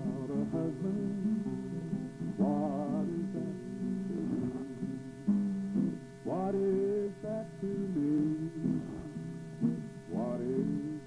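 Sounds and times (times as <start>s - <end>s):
acoustic guitar: 0.0s - 11.0s
man singing: 0.0s - 11.0s.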